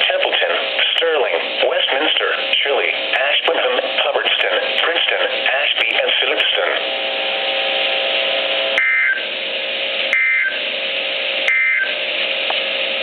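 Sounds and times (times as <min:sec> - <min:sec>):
radio hiss and hum: 0:00.0 - 0:13.0.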